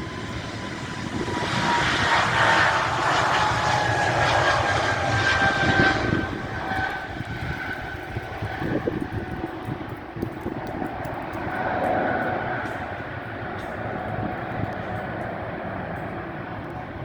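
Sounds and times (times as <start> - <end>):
jet engines passing by: 0.0 - 17.0.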